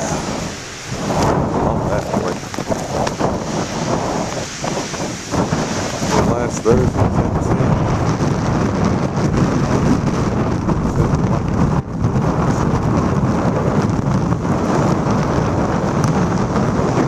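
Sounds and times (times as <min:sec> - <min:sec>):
surf breaking on rocks: 0:00.0 - 0:17.0
wind buffeting microphone: 0:00.0 - 0:17.0.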